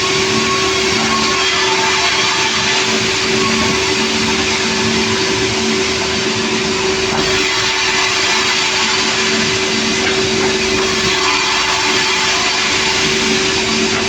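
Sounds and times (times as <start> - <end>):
sawmill saw running: 0.0 - 14.0.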